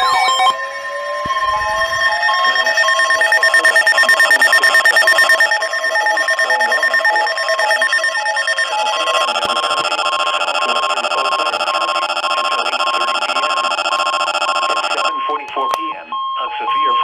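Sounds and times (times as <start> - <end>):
electronic alarm tones: 0.0 - 17.0
two-pitch beeping tone: 0.0 - 17.0.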